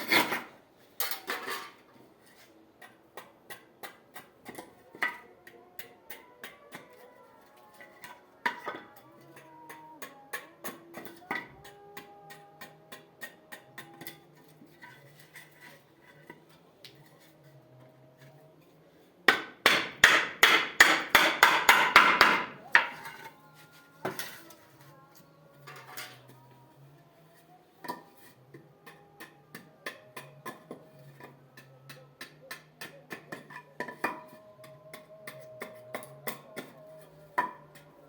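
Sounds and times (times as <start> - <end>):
soft background music: 3.9 - 38.0.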